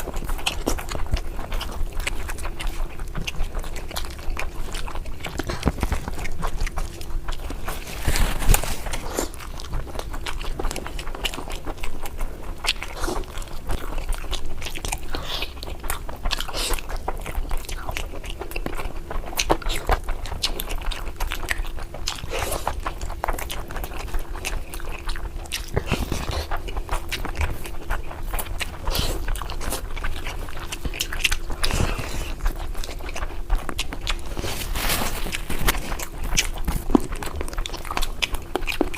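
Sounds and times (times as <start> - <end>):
mouth chewing food: 0.0 - 38.9.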